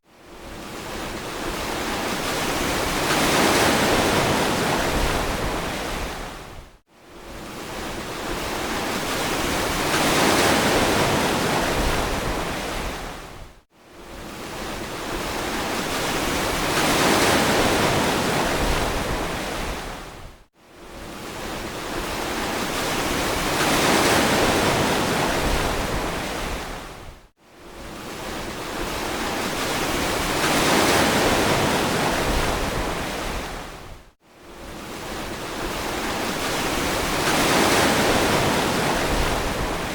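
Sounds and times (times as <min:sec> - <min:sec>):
ocean surf washing ashore: 0:00.3 - 0:06.6, 0:07.2 - 0:39.9.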